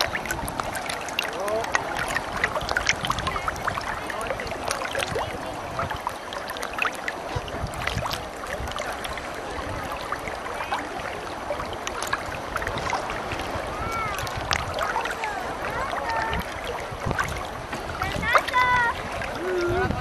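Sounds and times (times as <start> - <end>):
lake water lapping: 0.0 - 20.0.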